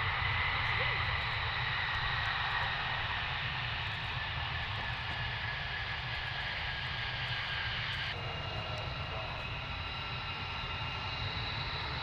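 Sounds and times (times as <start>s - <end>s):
jet engine roar and whine: 0.0s - 12.0s.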